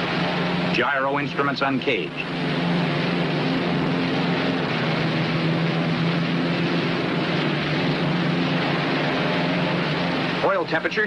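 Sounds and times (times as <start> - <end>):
radial aircraft engines droning: 0.0 - 11.0.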